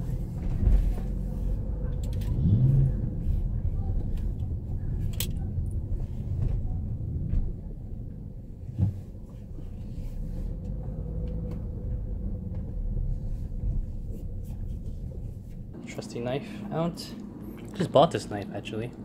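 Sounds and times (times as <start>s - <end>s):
car rolling with low rumble: 0.0s - 19.0s.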